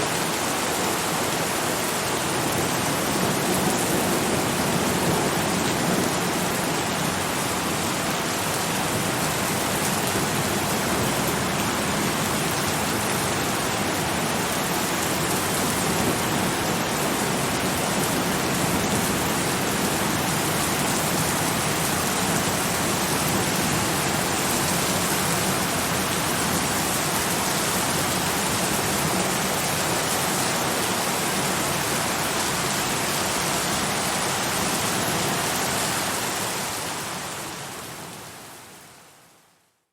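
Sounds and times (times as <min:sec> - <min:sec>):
heavy rain falling: 0:00.0 - 0:39.5.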